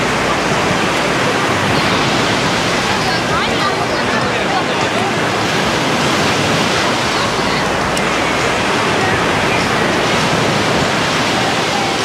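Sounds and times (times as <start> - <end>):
faint voices of beachgoers: 0.0 - 12.0
waves breaking on sandy shore: 0.0 - 12.0.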